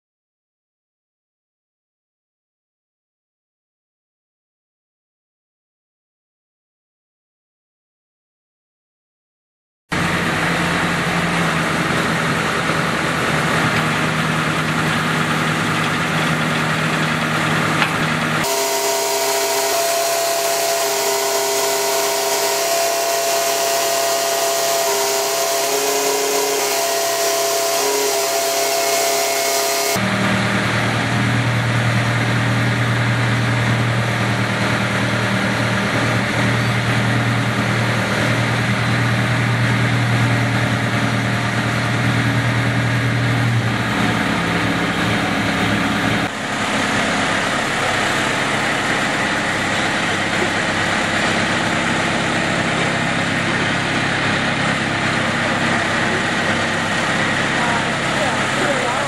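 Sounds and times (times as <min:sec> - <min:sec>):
deep strong hum: 0:09.9 - 0:59.0
drill rig whine: 0:09.9 - 0:59.0.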